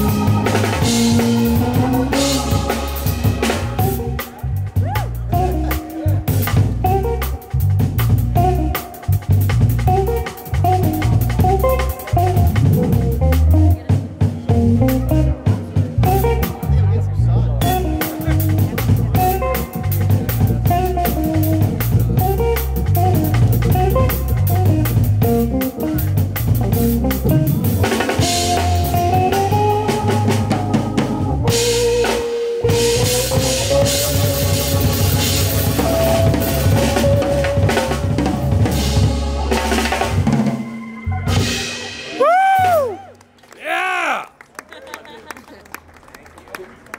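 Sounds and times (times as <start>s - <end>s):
drum kit snare and cymbals: 0.0s - 16.8s, 17.6s - 43.0s
electric keyboard melody: 0.0s - 42.0s
electric guitar: 0.0s - 43.1s
small live band playing: 0.0s - 44.2s.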